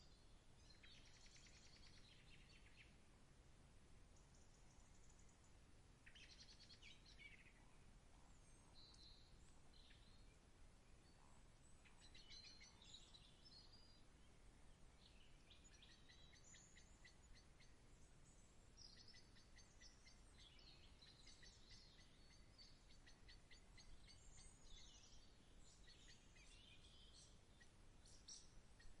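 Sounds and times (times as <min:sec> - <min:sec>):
small birds chirping and trilling: 0:00.0 - 0:03.0, 0:04.1 - 0:29.0.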